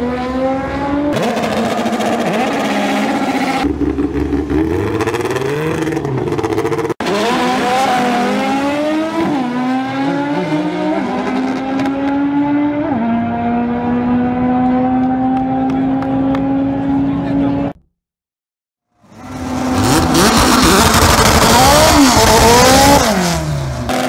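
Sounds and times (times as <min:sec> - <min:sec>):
drag car engine revving and shifting: 0:00.0 - 0:17.7, 0:19.2 - 0:24.0.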